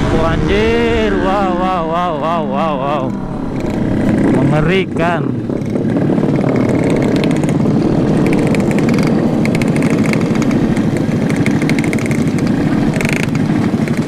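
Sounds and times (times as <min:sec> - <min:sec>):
two-stroke motorcycle engine: 0:00.0 - 0:14.0.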